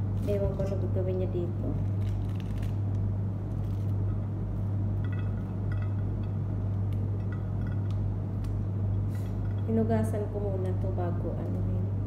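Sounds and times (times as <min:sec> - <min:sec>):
fruit peel crackling: 0:00.0 - 0:09.7
low hum: 0:00.0 - 0:12.0.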